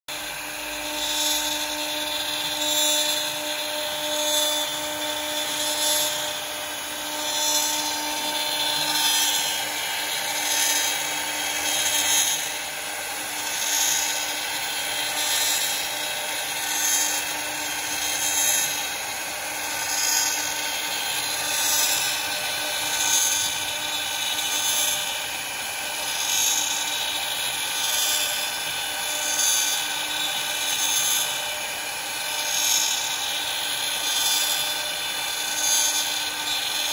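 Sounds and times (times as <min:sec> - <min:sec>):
router spindle whining while cutting wood: 0:00.1 - 0:36.9.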